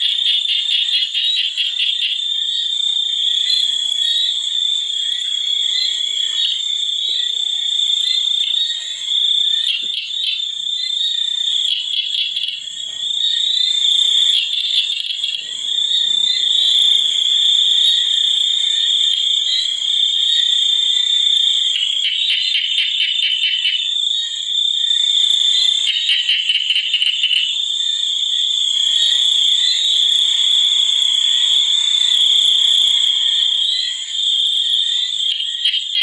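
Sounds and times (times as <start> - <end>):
frogs calling: 0.0 - 36.0.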